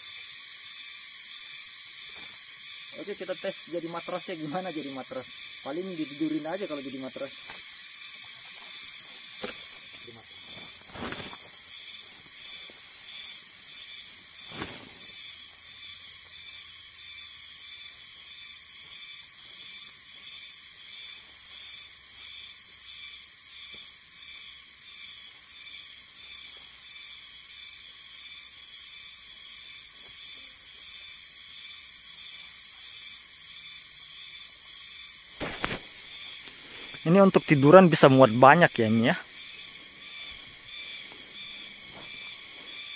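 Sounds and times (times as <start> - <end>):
high-pitched pulsing hiss: 0.0 - 42.9.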